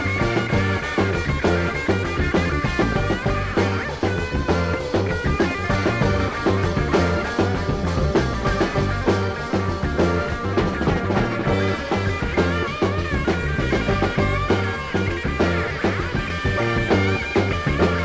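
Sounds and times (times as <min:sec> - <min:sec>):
rock music with bass line: 0:00.0 - 0:18.0.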